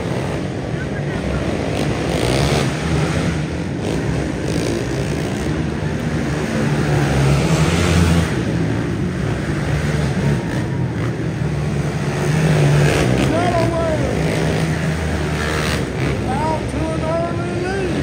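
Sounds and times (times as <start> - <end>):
quad engines revving: 0.0 - 18.0.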